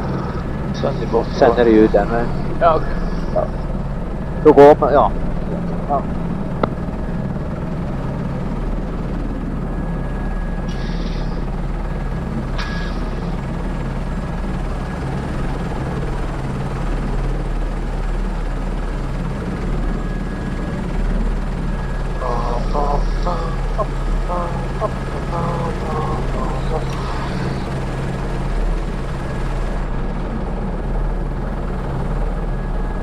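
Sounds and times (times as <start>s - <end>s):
helicopter engine and rotor droning: 0.0s - 33.0s.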